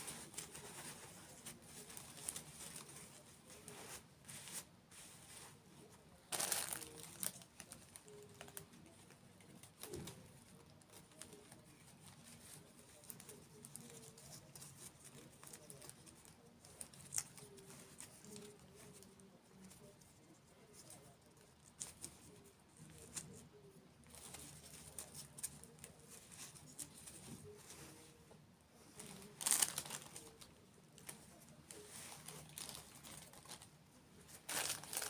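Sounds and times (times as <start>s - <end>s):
crisp crackles: 0.0s - 28.2s, 28.8s - 35.0s.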